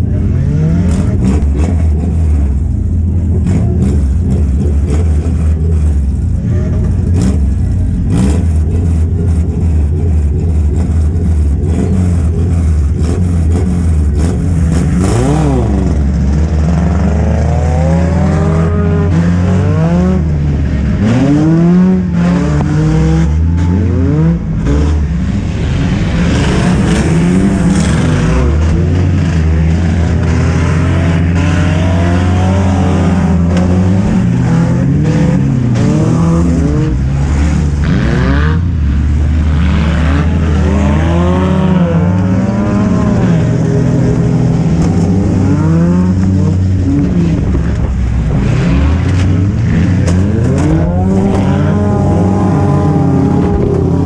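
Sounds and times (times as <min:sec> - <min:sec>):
race car engine idling and revving: 0:00.0 - 0:54.0.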